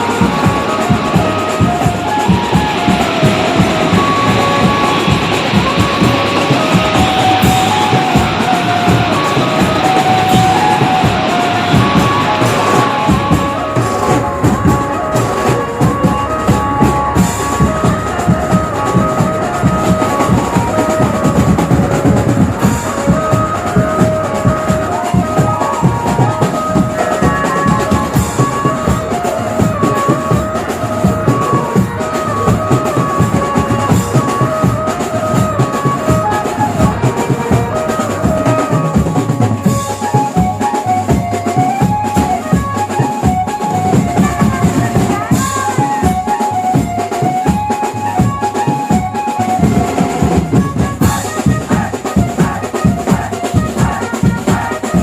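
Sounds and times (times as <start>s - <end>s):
banjo band melody: 0.0s - 55.0s
steady drumming: 0.0s - 55.0s.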